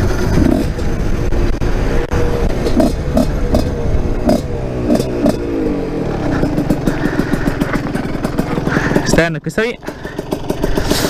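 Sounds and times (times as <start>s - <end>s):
two-stroke motorcycle engine running: 0.0s - 11.0s.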